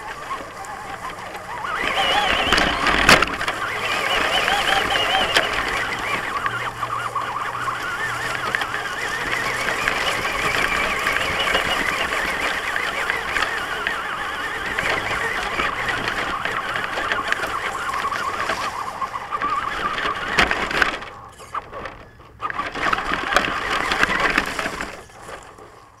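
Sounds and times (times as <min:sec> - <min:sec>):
electric motor and gears whining: 0:00.0 - 0:26.0.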